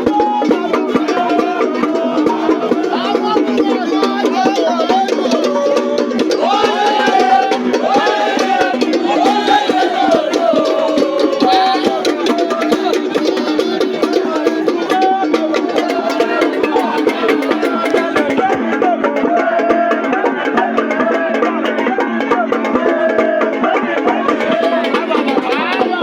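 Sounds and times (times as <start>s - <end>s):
wood block clicking percussion: 0.0s - 18.9s, 23.6s - 26.0s
music with drums: 0.0s - 26.0s.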